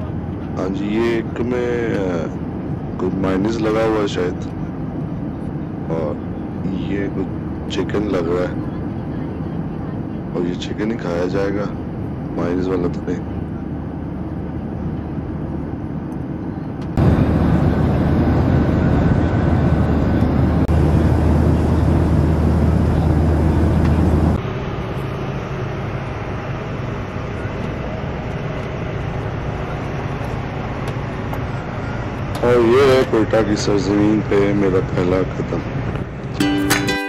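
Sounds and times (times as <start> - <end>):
airliner engine drone: 0.0 - 37.0.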